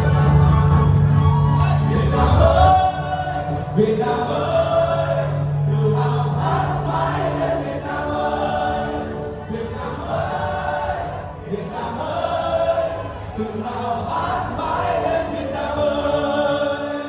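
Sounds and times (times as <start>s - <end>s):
musical accompaniment: 0.0s - 17.0s
man singing into microphone: 1.6s - 10.6s, 11.5s - 17.0s
many voices singing together: 1.6s - 17.0s.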